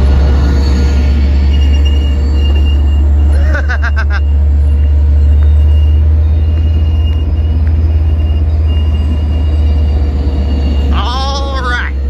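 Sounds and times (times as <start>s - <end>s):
diesel locomotive idling: 0.0s - 12.0s.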